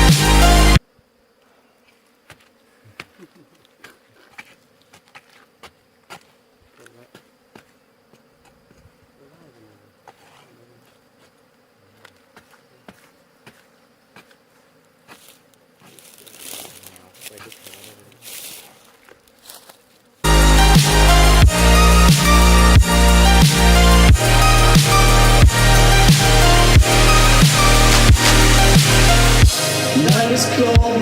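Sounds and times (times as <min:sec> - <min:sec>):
bees buzzing faintly: 0:00.0 - 0:31.0.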